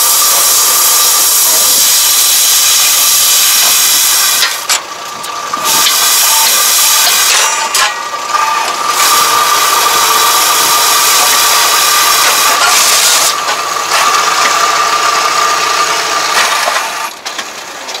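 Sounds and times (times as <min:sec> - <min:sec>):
tractor engine running with whine: 0:00.0 - 0:18.0.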